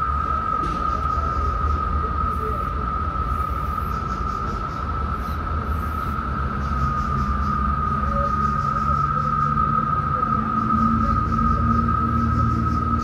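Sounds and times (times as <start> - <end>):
steady high whine: 0.0 - 13.0.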